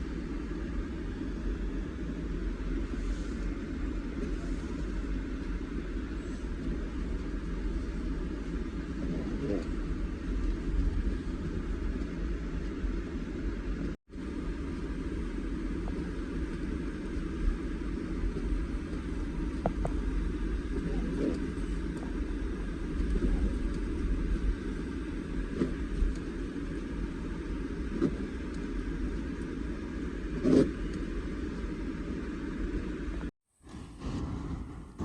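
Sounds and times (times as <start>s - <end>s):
motor vehicle rumble: 0.0s - 35.0s.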